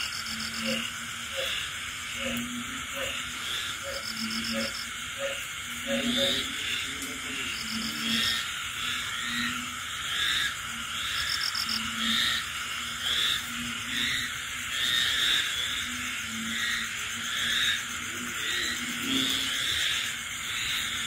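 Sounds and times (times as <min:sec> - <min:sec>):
deep frog croak: 0:00.0 - 0:21.0.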